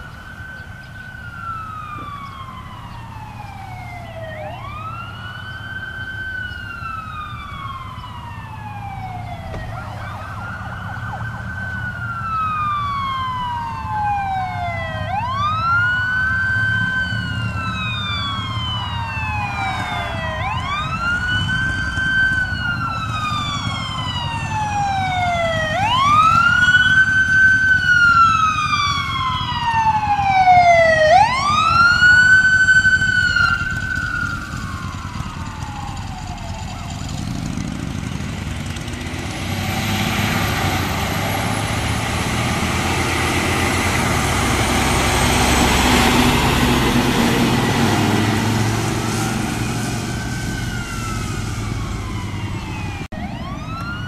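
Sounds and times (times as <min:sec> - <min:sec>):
fire engine siren wailing: 0:00.0 - 0:54.0
truck engine rumble: 0:00.0 - 0:54.0.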